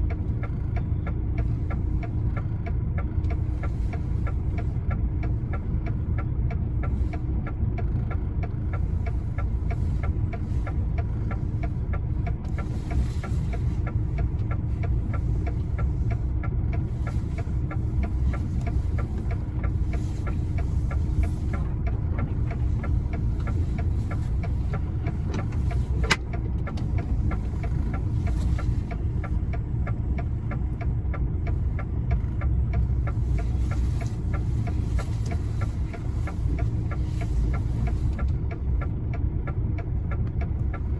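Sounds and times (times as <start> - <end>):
diesel truck engine running: 0.0 - 40.9
fast even ticking: 0.0 - 40.9.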